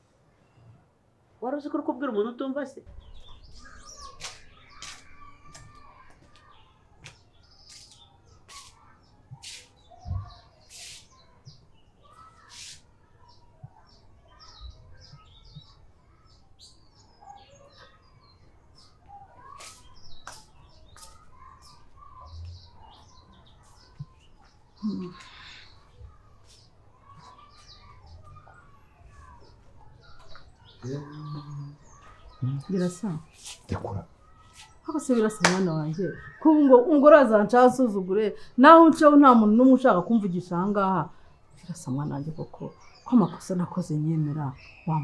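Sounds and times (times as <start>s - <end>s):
small birds chirping: 1.5s - 45.0s.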